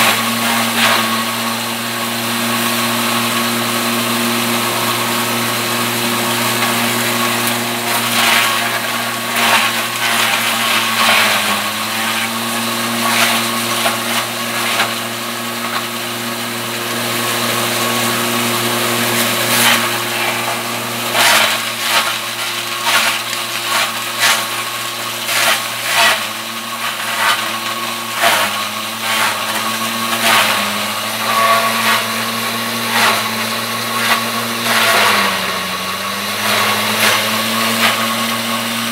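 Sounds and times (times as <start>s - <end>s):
electric shredder humming: 0.0s - 38.9s.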